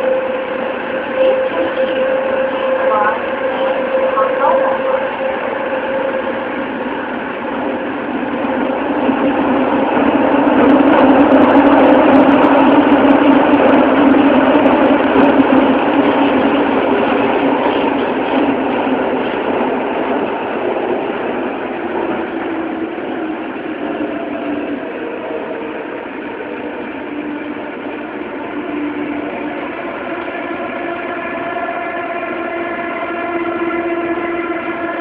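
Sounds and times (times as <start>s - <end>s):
subway train wheels rumbling: 0.0s - 35.0s.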